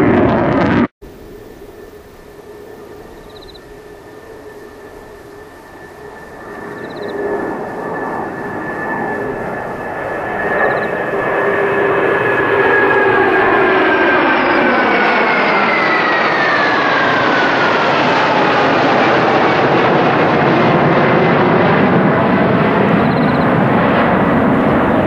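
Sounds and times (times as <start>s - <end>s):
jet fighters roaring overhead: 0.0s - 25.0s.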